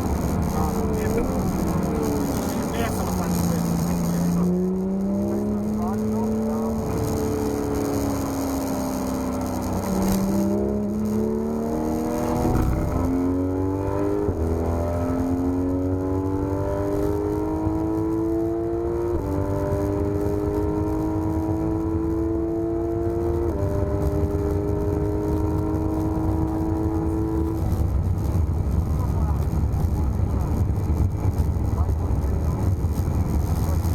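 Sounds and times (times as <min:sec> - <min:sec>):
engine upshifts: 0:00.0 - 0:33.9
sports car engine revving: 0:00.0 - 0:33.9.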